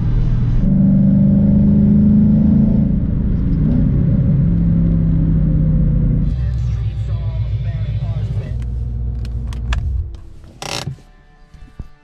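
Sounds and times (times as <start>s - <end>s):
car engine while driving: 0.0s - 11.0s.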